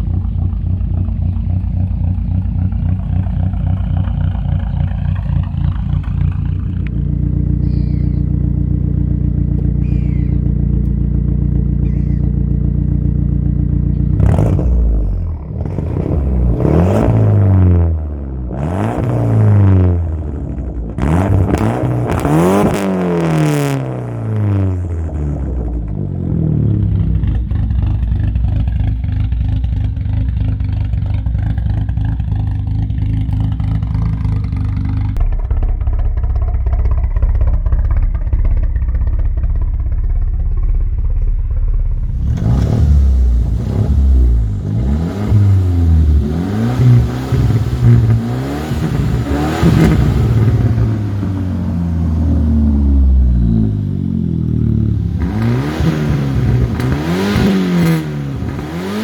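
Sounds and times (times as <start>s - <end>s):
car engine idling and revving: 0.0s - 59.0s.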